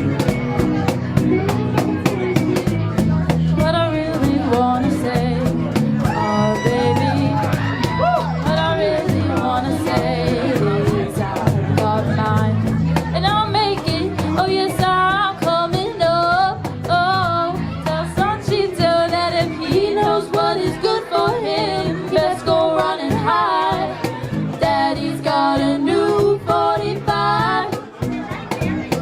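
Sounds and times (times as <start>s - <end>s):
live rock band playing: 0.0s - 29.0s
lead singer: 3.6s - 12.6s, 13.2s - 28.0s.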